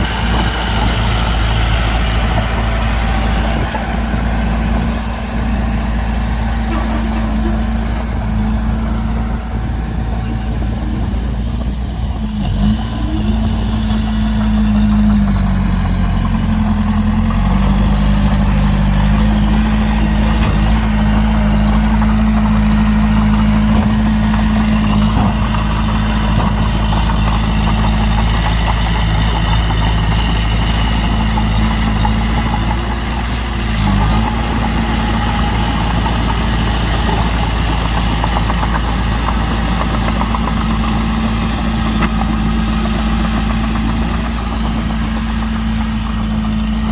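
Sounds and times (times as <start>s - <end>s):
heavy diesel engine idling: 0.0s - 46.9s.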